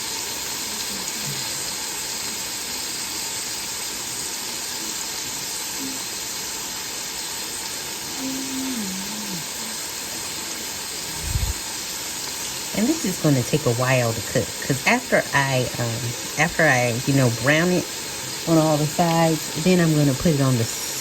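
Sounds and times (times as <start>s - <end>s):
meat sizzling in grease: 0.0s - 21.0s.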